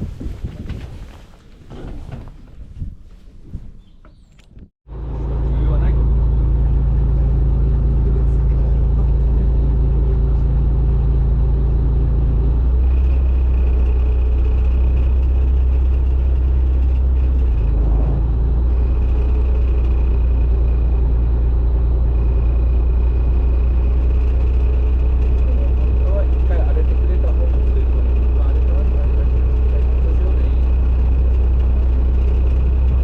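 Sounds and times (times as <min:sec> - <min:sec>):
boat engine droning: 0:04.9 - 0:33.0.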